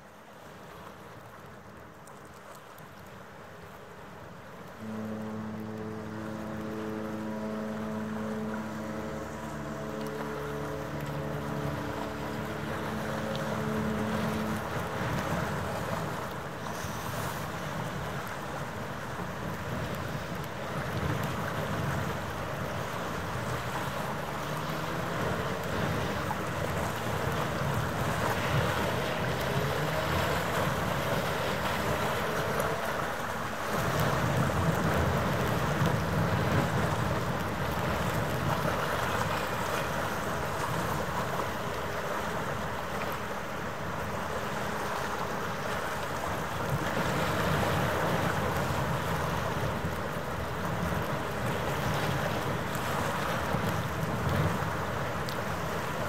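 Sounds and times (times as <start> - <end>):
low mechanical hum: 4.6 - 54.5.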